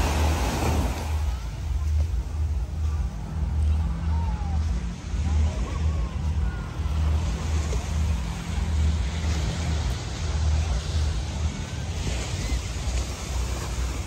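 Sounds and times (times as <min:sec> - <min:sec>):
small waves breaking on beach: 0:00.0 - 0:14.0.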